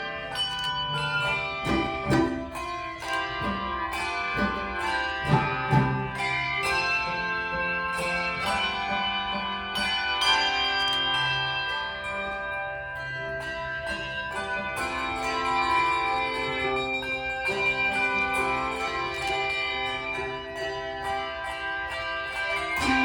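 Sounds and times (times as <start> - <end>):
handbells playing a tune: 0.0 - 23.0.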